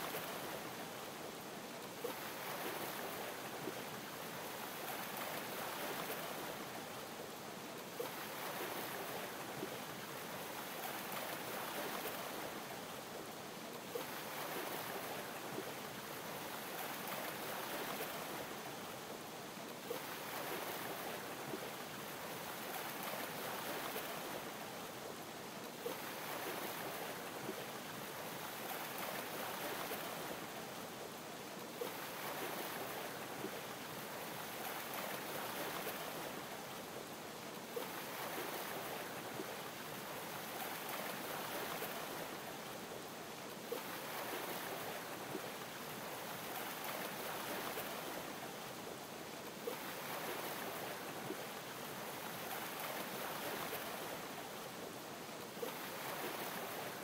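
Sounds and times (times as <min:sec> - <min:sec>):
waves lapping: 0:00.0 - 0:57.0.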